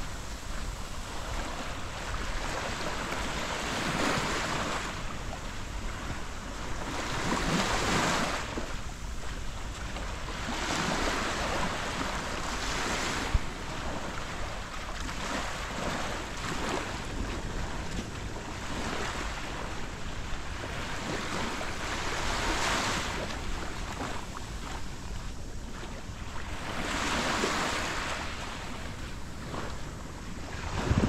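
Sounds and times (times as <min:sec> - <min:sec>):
sea waves breaking on beach: 0:00.0 - 0:31.0
wind buffeting microphone: 0:00.0 - 0:31.0.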